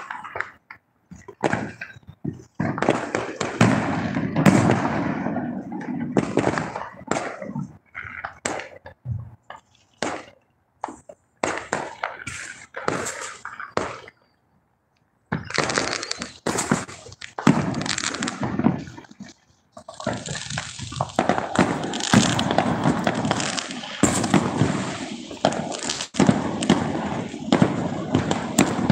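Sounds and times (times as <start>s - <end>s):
fireworks banging and popping: 0.0s - 14.4s, 15.3s - 28.9s.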